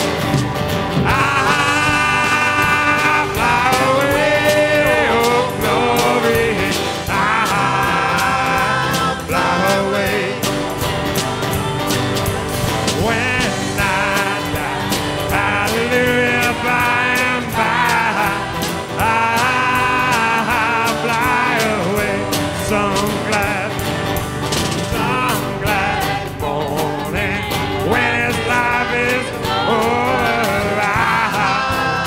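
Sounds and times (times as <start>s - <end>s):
bass guitar: 0.0s - 32.0s
electric guitar lead: 0.0s - 32.0s
steady drum beat: 0.0s - 32.0s.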